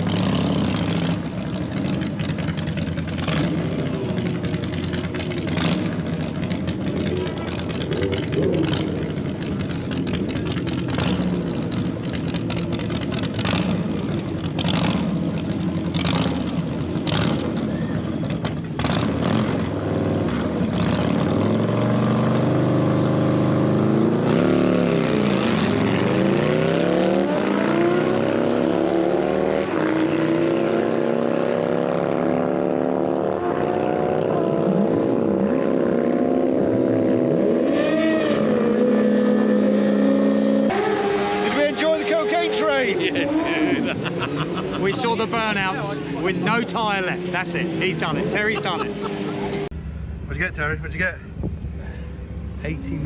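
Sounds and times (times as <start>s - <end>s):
motorcycle engine revving hard: 0.0s - 49.7s.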